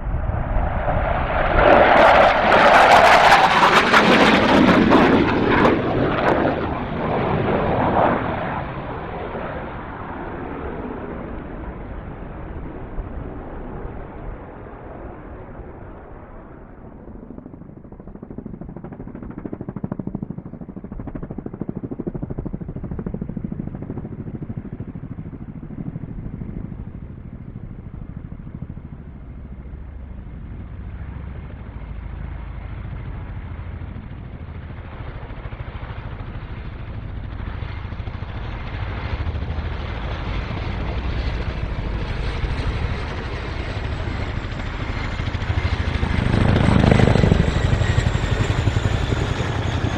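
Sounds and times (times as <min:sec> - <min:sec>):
jet engine rumble: 0:00.0 - 0:49.9.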